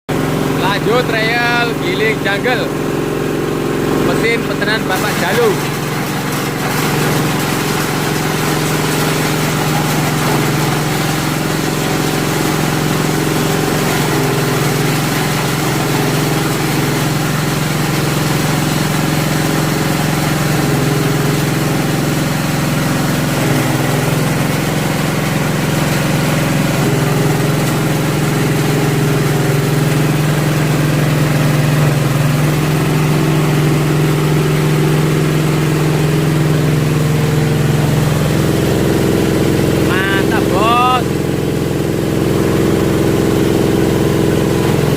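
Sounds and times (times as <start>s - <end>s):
grinding mill humming: 0.1s - 44.9s.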